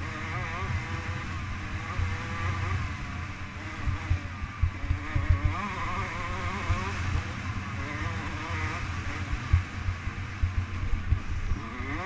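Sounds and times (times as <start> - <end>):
dirt bike engine running hard: 0.0 - 12.0.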